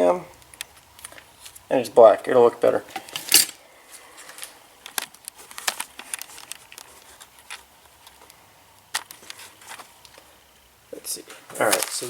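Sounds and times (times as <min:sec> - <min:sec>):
faint rustling of parts: 0:00.3 - 0:12.0.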